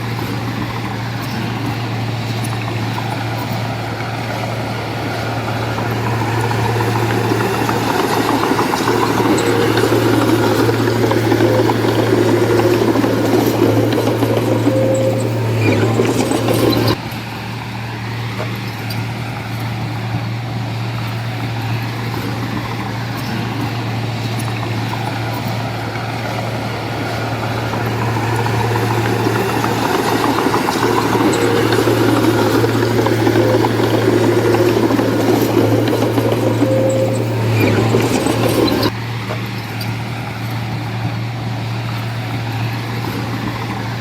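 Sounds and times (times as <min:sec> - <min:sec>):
diesel engine humming: 0:00.0 - 0:44.0.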